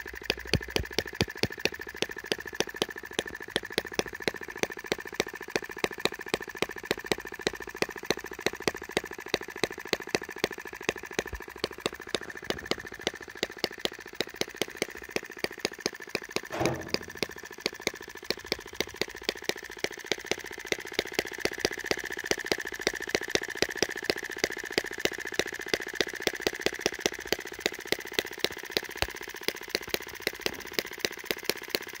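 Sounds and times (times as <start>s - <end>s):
small engine idling: 0.0s - 32.0s.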